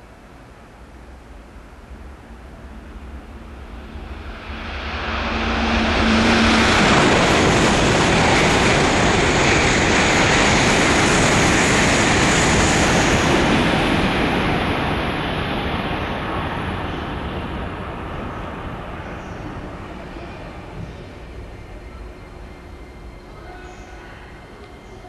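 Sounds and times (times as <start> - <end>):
high-speed train passing: 0.0 - 25.0.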